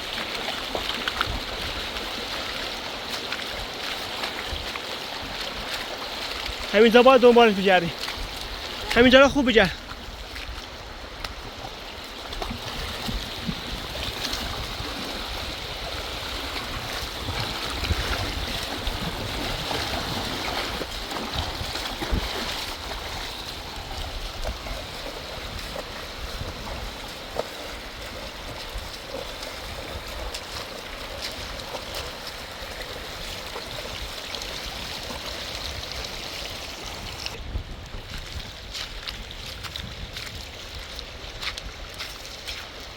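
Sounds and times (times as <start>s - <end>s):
rushing river water: 0.0s - 42.9s.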